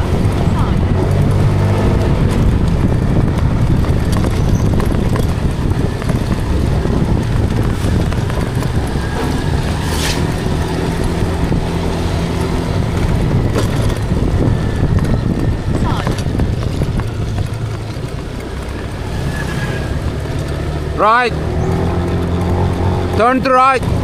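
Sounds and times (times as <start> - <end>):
car engine running: 0.0 - 24.0
low rumble of road noise: 0.0 - 24.0.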